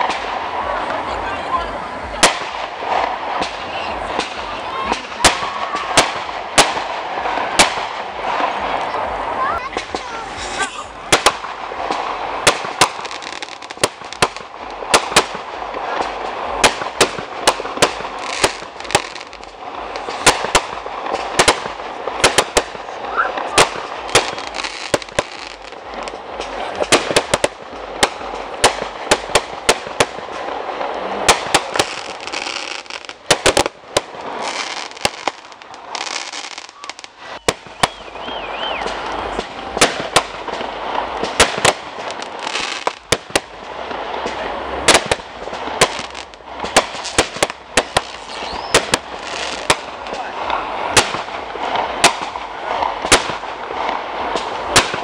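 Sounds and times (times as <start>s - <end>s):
fireworks bangs: 0.0s - 55.0s
fireworks crackle: 0.0s - 55.0s.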